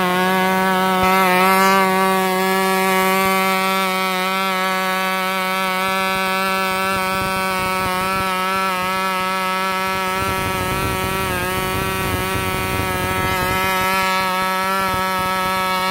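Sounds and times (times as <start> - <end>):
model glow engine buzzing: 0.0 - 15.9.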